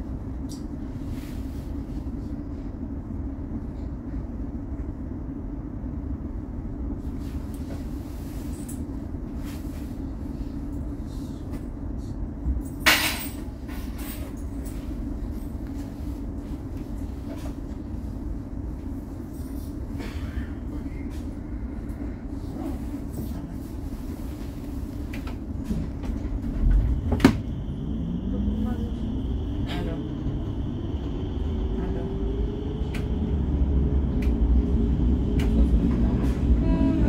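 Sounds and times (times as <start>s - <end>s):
train car rumble and hum: 0.0s - 37.0s.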